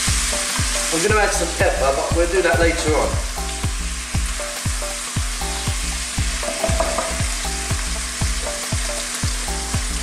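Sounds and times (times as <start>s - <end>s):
background music with thudding beat: 0.0s - 10.0s
onions sizzling in oil: 0.0s - 10.0s.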